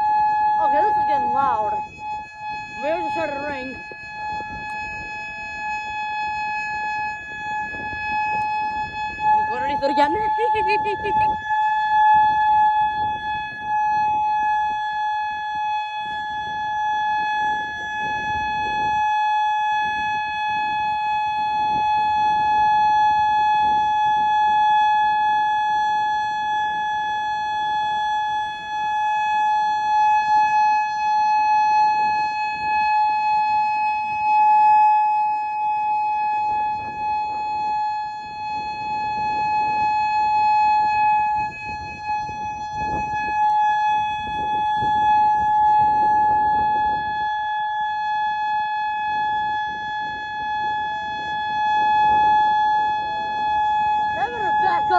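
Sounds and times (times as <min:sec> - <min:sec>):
tornado warning siren: 0:00.0 - 0:54.9.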